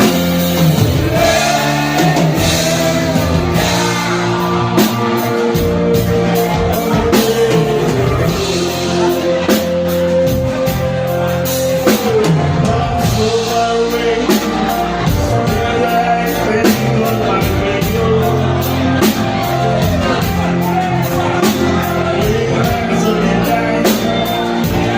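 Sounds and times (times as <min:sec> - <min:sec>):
person singing long notes: 0:00.0 - 0:24.9
rock band playing: 0:00.0 - 0:24.9.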